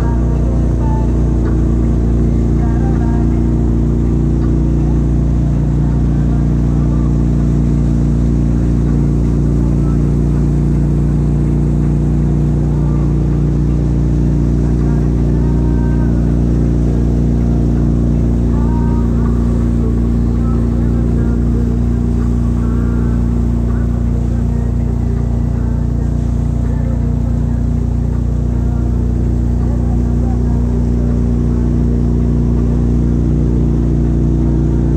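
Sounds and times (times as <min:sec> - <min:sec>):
boat engine low drone: 0:00.0 - 0:34.9.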